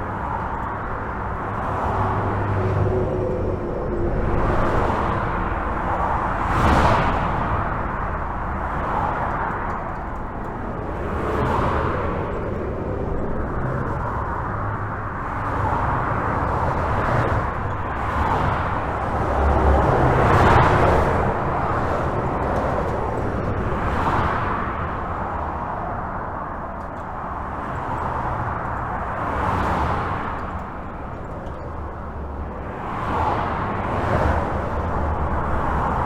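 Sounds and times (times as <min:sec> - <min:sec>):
highway traffic rushing: 0:00.0 - 0:36.0.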